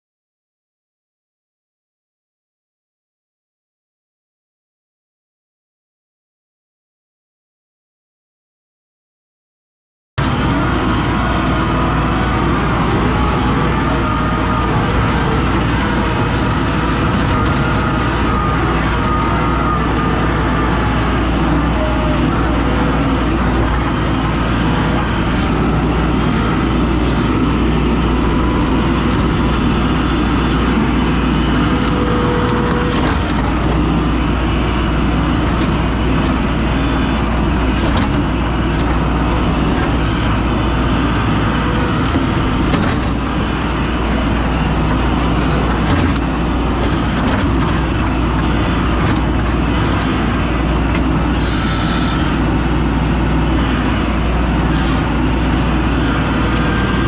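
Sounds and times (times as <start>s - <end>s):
engine running steadily: 10.2s - 57.0s.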